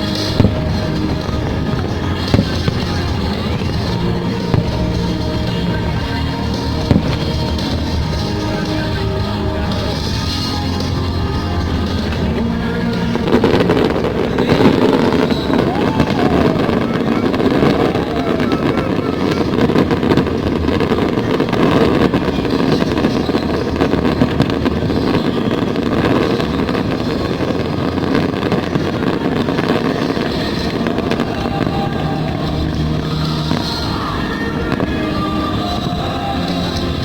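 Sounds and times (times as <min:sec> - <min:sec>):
fireworks crackling: 0:00.0 - 0:37.0
low rumble of fireworks: 0:00.0 - 0:37.0.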